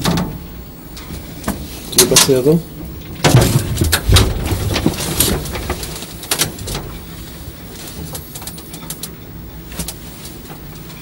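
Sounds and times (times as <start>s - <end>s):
lift car low hum: 0.0s - 11.0s.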